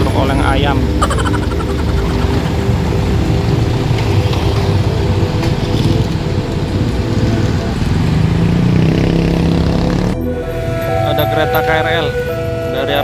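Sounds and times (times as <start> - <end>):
cars driving past: 0.0 - 12.6
motorcycles passing: 0.0 - 13.0.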